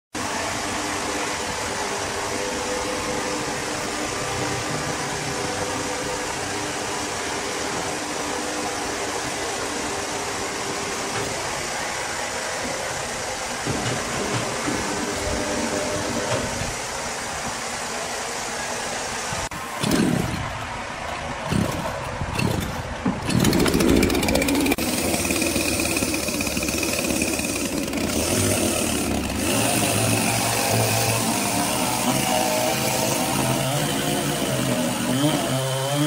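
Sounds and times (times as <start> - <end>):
machinery whirring: 0.2 - 36.0.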